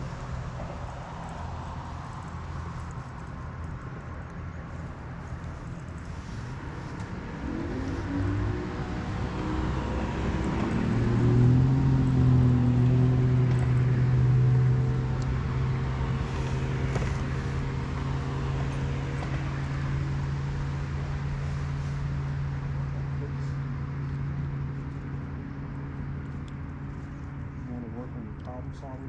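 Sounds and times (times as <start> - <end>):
motorboat engine droning: 0.0 - 29.0.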